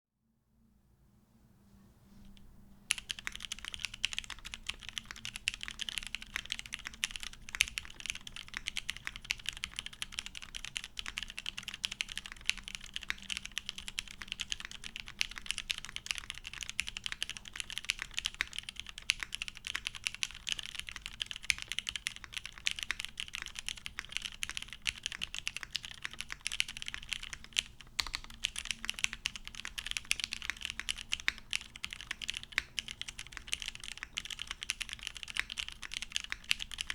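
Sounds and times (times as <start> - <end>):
fast mechanical keyboard typing: 2.9 - 36.9.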